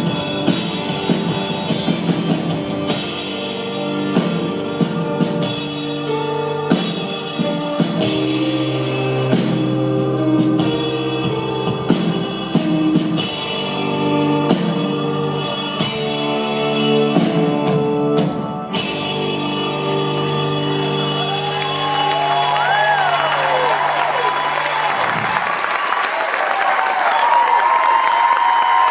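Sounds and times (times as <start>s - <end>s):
live band playing: 0.0s - 26.2s.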